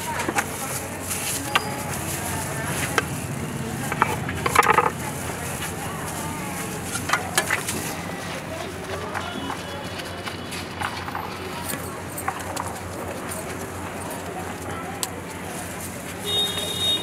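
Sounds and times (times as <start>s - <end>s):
street background noise: 0.0s - 17.0s.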